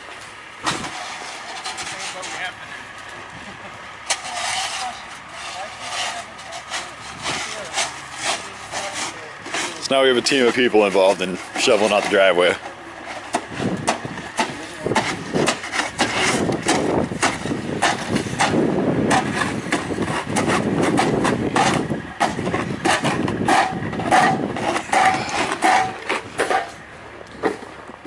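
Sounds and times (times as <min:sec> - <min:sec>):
snow shovels scraping pavement: 0:00.6 - 0:02.9, 0:03.6 - 0:27.7.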